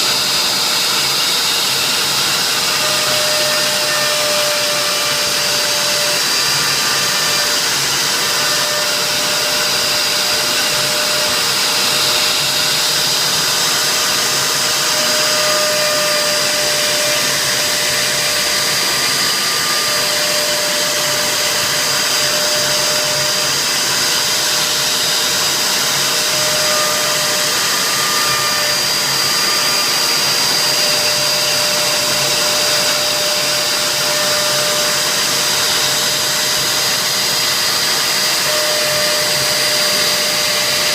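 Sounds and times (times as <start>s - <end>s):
cnc router spindle whine: 0.0s - 40.9s.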